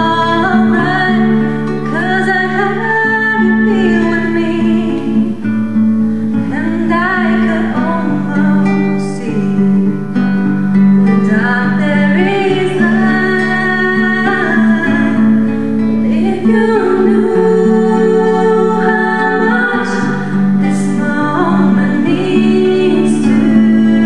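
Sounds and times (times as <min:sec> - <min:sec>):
person singing: 0:00.0 - 0:05.4, 0:06.5 - 0:10.0, 0:11.0 - 0:24.0
guitar: 0:00.0 - 0:24.0.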